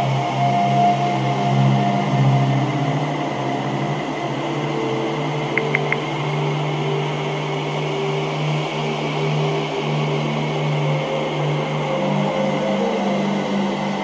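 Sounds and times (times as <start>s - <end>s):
singing bowl drone: 0.0s - 14.0s.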